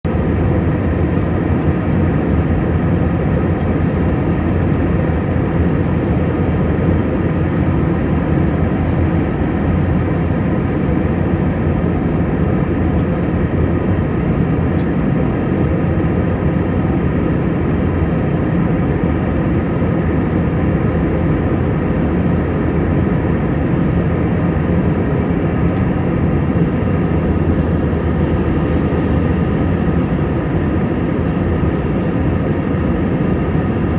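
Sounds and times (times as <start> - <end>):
jet airliner rumble: 0.0 - 33.9.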